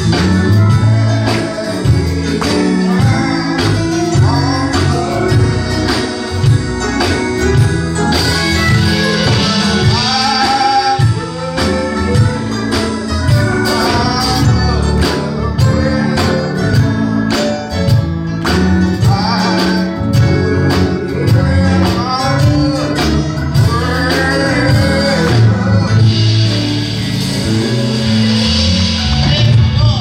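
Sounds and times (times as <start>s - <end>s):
person singing: 0.0s - 7.3s, 8.1s - 17.5s, 18.9s - 26.6s
bass and drums beat: 0.0s - 30.0s
live gospel band: 0.0s - 30.0s.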